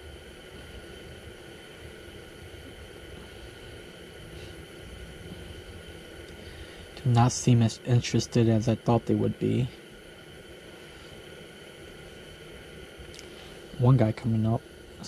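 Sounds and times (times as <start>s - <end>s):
faint steady tones: 0.0s - 15.0s
low rumble and hiss: 0.0s - 15.0s.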